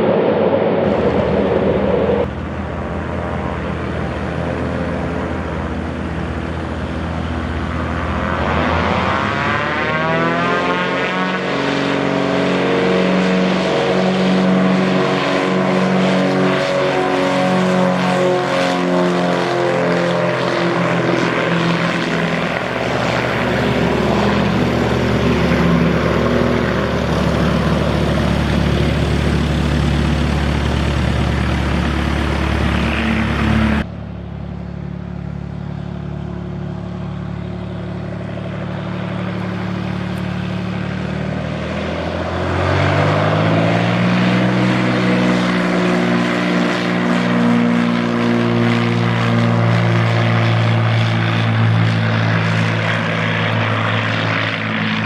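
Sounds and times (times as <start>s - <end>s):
propeller airplane engine droning: 0.0s - 55.0s.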